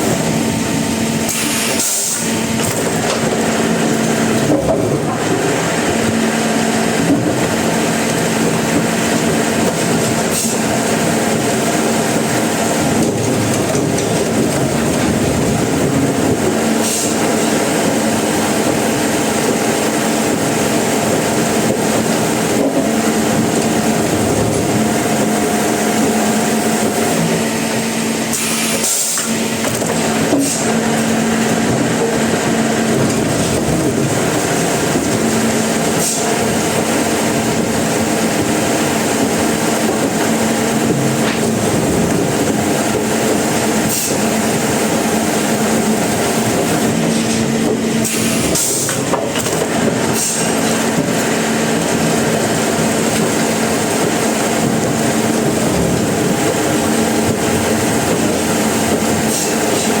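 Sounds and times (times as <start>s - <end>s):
sawmill motor hum: 0.0s - 60.0s.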